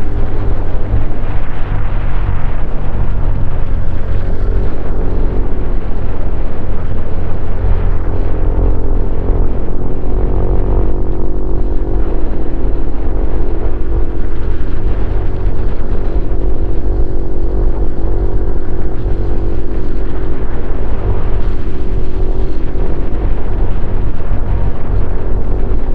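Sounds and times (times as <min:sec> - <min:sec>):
motorcycle engine running: 0:00.0 - 0:25.9
wind rumble: 0:00.0 - 0:25.9.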